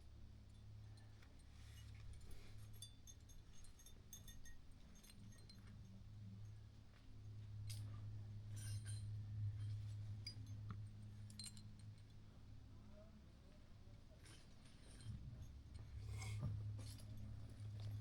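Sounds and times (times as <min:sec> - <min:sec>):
faint light clicks and clinks: 0:00.4 - 0:13.1, 0:13.9 - 0:18.0.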